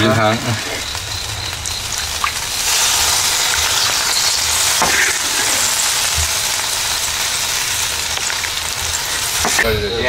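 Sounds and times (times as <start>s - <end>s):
food sizzling: 0.0s - 10.0s.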